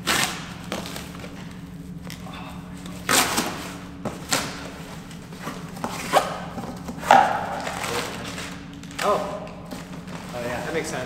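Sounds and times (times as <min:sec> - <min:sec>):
cardboard cracking and rustling: 0:00.0 - 0:02.2, 0:02.9 - 0:10.8.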